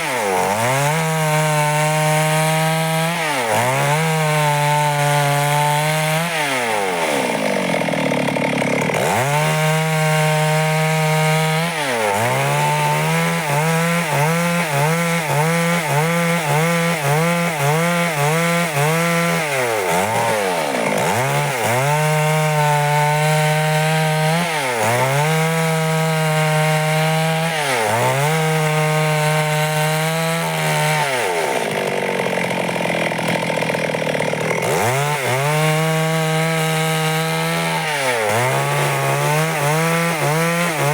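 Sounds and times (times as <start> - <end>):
chainsaw sawing through wood: 0.0 - 40.9.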